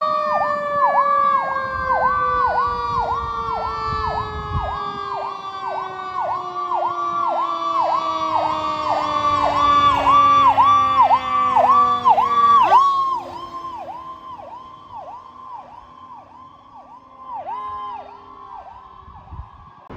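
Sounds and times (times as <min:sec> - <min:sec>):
electronic siren whooping: 0:00.0 - 0:19.9
lower siren tone falling: 0:00.0 - 0:19.9.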